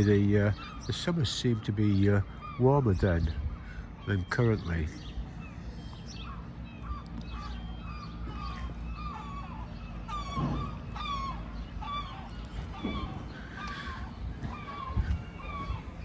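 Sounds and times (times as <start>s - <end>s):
birds squawking: 0.0s - 16.0s
low background rumble: 0.0s - 16.0s.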